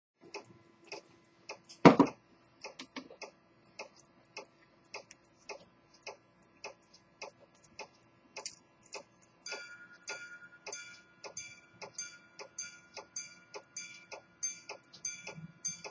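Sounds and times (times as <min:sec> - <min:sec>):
clock ticking: 0:00.2 - 0:15.9.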